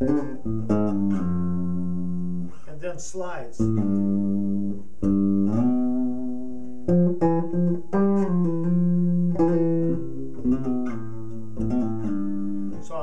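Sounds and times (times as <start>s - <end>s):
electric bass guitar played fingerstyle: 0.0s - 2.7s, 3.6s - 13.0s.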